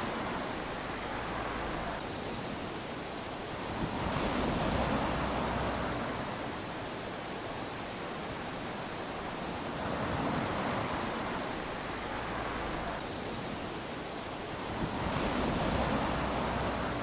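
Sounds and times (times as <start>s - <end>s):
small waves lapping on sand: 0.0s - 17.0s.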